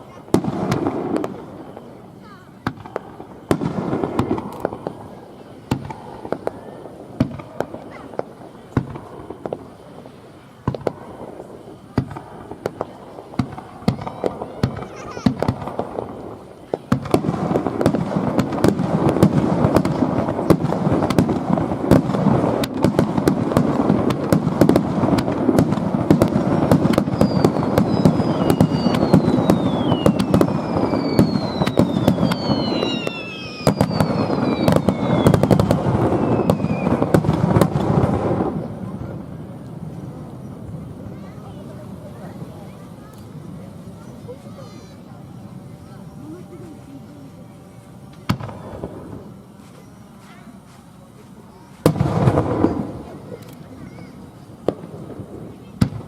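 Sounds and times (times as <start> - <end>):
fireworks bangs: 0.0 - 47.0, 47.8 - 56.0
falling fireworks whistles: 0.0 - 56.0
fireworks crackling: 0.0 - 56.0.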